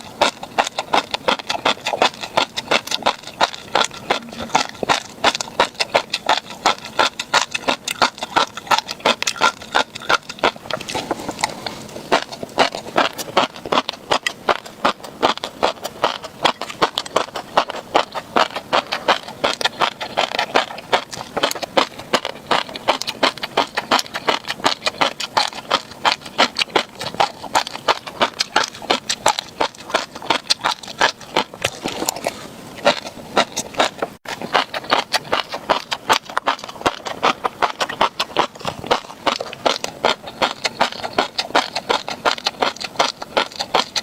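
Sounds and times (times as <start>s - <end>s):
crunchy fish roe chewing: 0.0s - 44.0s.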